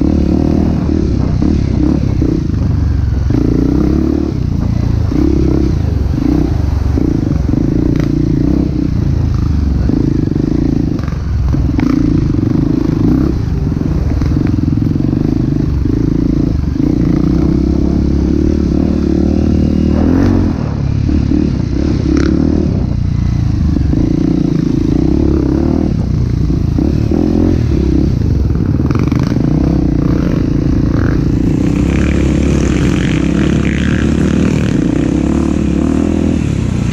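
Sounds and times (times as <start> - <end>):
off-road motorcycle engine: 0.0 - 36.9.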